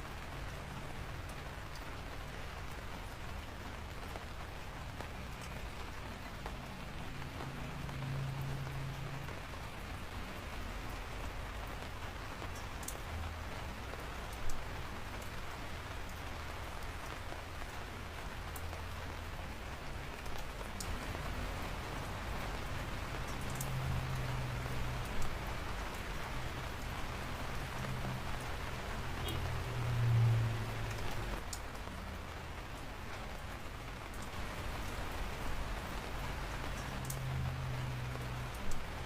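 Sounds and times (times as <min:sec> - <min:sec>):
raindrops ticking on a surface: 0:00.0 - 0:39.0
steady rain falling: 0:00.0 - 0:39.0.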